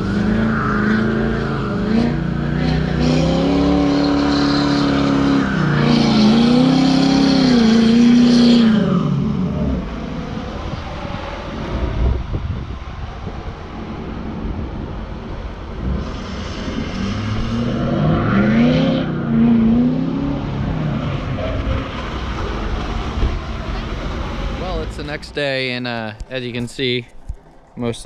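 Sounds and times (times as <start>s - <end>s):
diesel engine rumbling and revving: 0.0s - 28.0s.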